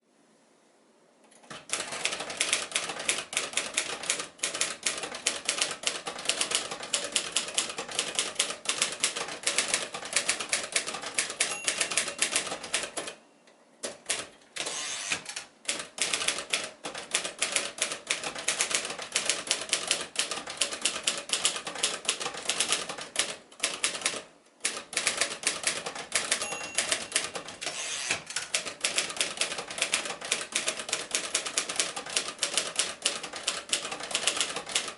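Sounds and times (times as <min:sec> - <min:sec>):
typewriter key strikes: 0:01.3 - 0:13.2, 0:13.8 - 0:34.9.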